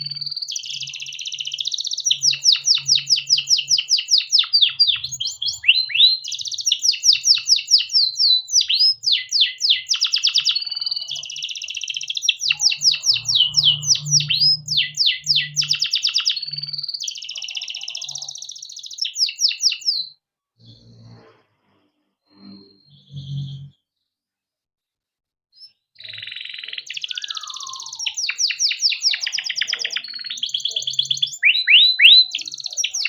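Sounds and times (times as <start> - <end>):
canary singing: 0.0 - 20.8, 22.6 - 23.8, 25.6 - 33.0.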